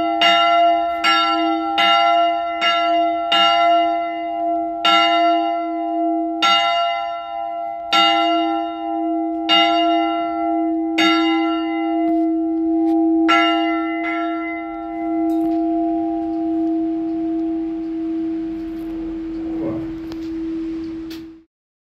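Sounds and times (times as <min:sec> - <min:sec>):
church bell ringing: 0:00.0 - 0:21.5.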